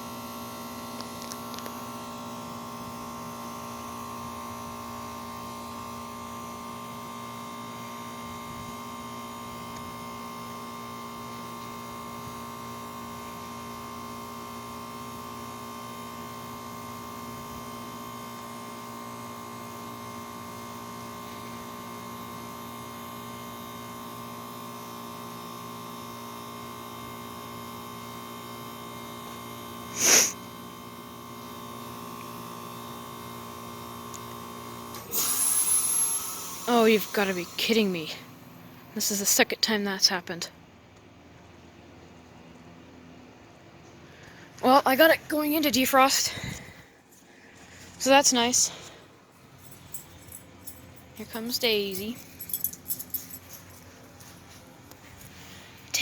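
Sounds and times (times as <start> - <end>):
heat pump compressor humming: 0.0 - 56.0.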